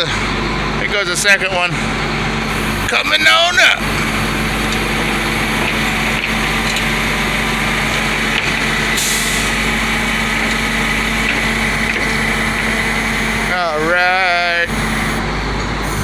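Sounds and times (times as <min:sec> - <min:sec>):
truck engine drone: 0:00.0 - 0:16.0
hydraulic whine: 0:01.8 - 0:16.0.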